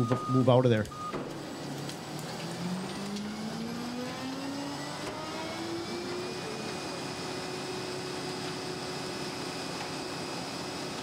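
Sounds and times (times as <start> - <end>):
truck engine and hydraulic hum: 0.0 - 11.0.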